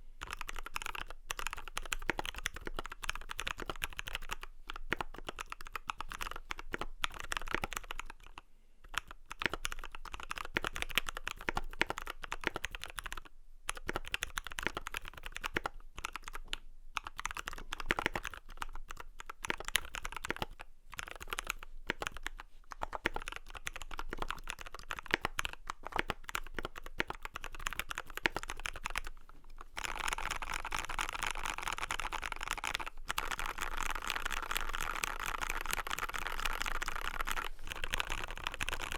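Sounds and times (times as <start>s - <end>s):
mechanical keyboard typing: 0.2s - 29.2s, 29.8s - 38.9s.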